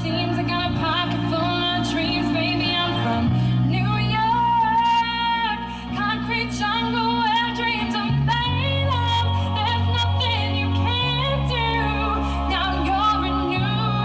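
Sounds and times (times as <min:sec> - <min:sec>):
held low instrumental chords: 0:00.0 - 0:14.0
woman singing: 0:00.0 - 0:14.0.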